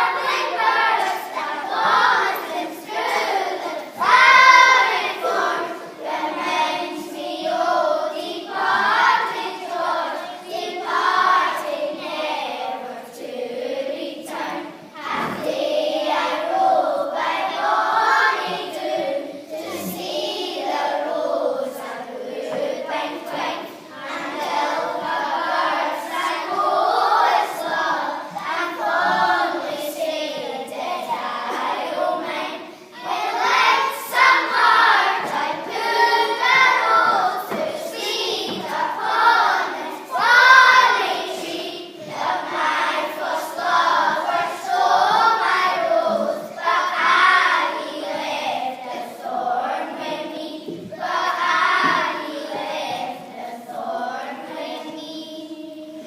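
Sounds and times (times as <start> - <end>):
children singing in unison: 0.0 - 56.0.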